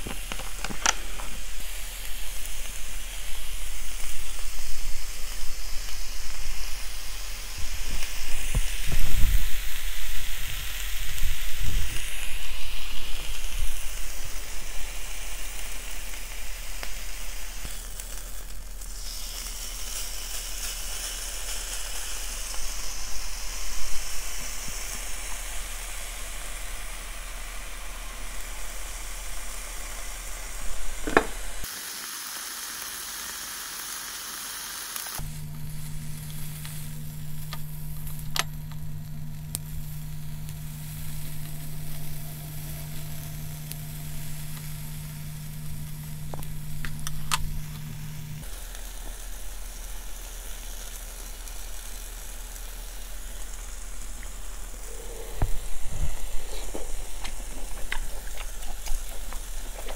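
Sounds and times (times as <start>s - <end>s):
low steady hum: 0.0s - 31.7s, 35.2s - 59.9s
meat sizzling on a grill pan: 0.0s - 59.9s.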